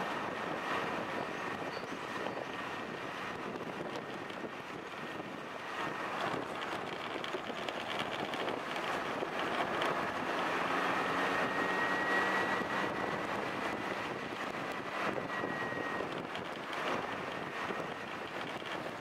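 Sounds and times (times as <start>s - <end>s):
wind rush on microphone: 0.0s - 19.0s
faint scooter engine: 0.4s - 19.0s.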